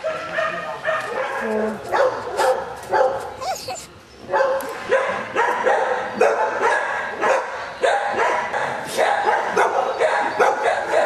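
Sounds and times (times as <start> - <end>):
dogs barking and yipping: 0.0 - 11.0.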